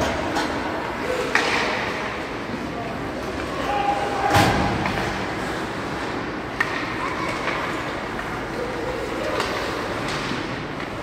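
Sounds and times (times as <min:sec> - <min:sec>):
crowd chatter: 0:00.0 - 0:11.0
skating noise: 0:00.0 - 0:11.0.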